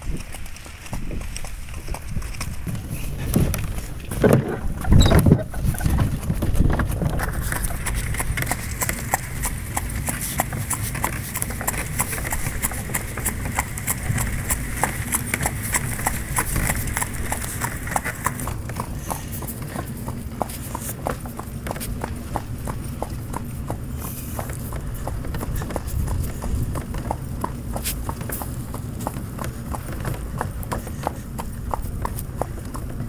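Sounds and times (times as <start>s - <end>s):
horse hooves clip-clop on snow: 0.0s - 33.0s.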